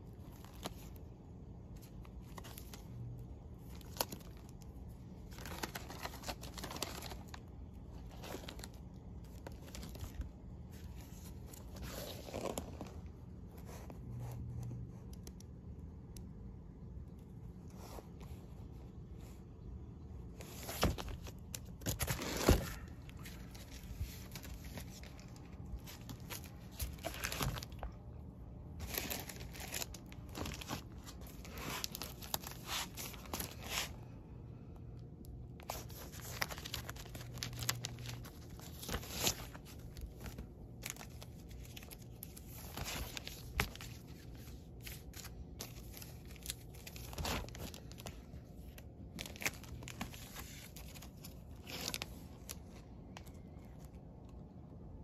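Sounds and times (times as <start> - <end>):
plastic sleeves crinkling: 0.0 - 55.0.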